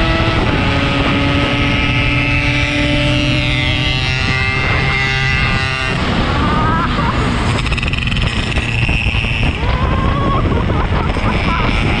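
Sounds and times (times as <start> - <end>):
motorcycle engine revving: 0.0 - 12.0
road rumble: 0.0 - 12.0
wind noise: 0.0 - 12.0.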